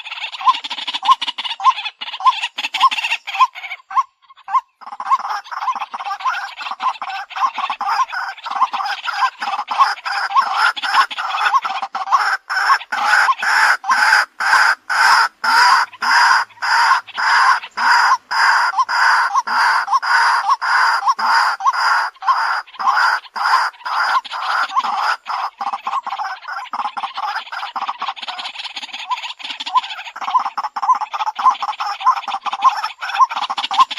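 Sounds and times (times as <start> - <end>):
waterhen calling harsh repeated notes: 0.0 - 33.9.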